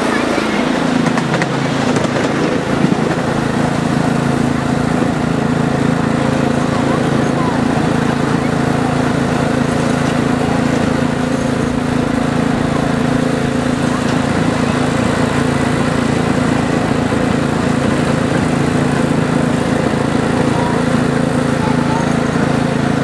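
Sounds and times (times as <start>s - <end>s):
small engine droning: 0.0s - 23.0s.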